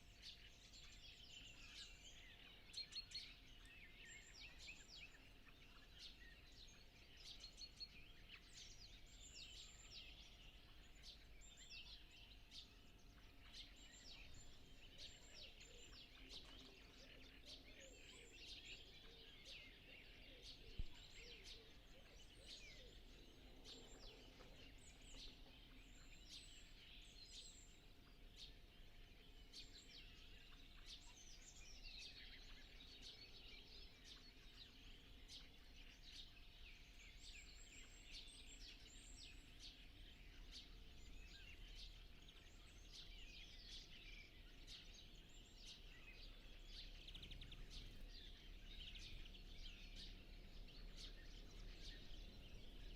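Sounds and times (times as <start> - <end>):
songbirds singing: 0.0 - 52.9.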